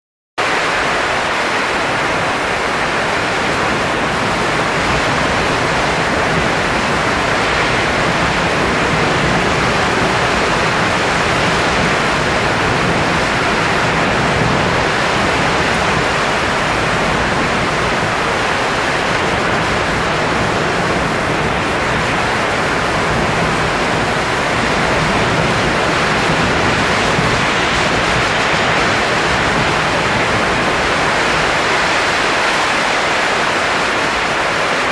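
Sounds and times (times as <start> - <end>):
steady rush of blowing air: 0.4 - 34.9.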